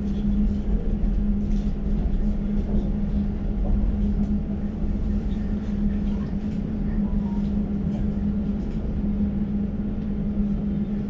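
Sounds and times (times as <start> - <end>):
train rumbling from inside carriage: 0.0 - 11.0.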